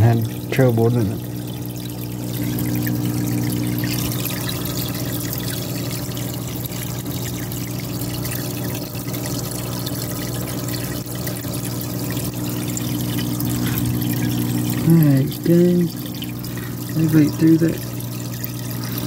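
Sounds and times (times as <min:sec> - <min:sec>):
water trickling into tub: 0:00.0 - 0:19.0.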